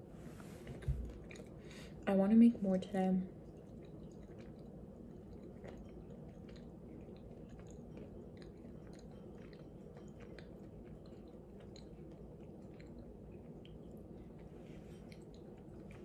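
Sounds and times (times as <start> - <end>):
low room hum: 0.0 - 16.0
person chewing: 0.8 - 1.7, 3.4 - 16.0.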